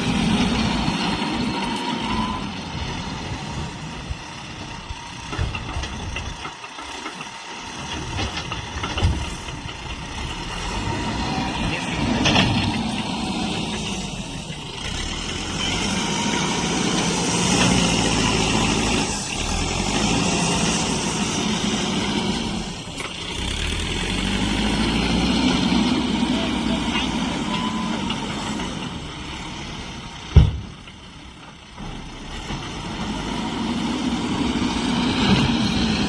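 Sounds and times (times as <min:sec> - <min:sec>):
diesel engines running: 0:00.0 - 0:36.0.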